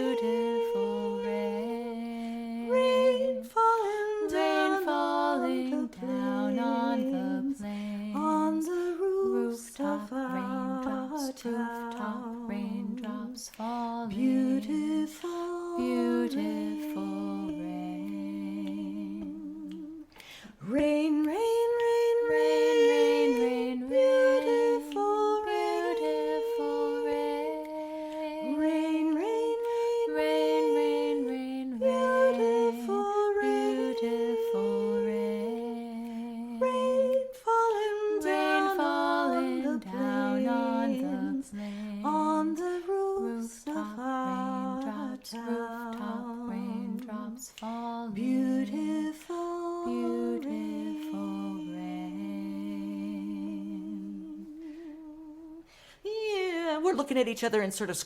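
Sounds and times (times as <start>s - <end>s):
women singing unaccompanied: 0.0s - 57.3s.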